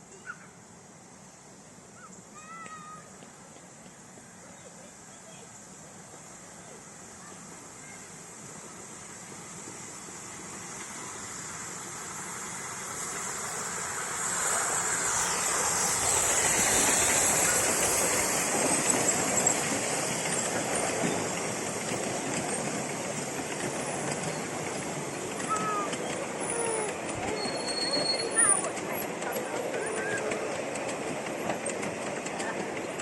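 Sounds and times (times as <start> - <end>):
steam train passing: 0.0 - 33.0.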